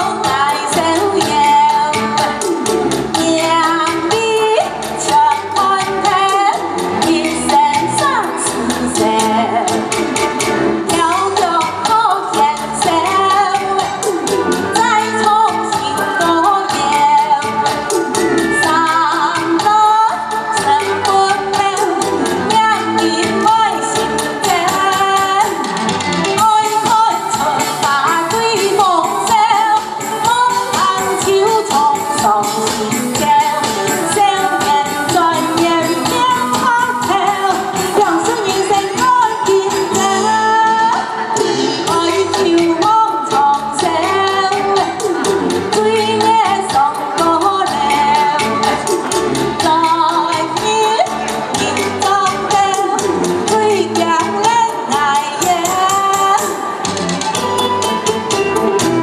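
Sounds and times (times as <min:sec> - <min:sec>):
woman singing into a microphone: 0:00.0 - 0:10.0, 0:10.8 - 0:59.0
amplified backing music with fast beat: 0:00.0 - 0:59.0.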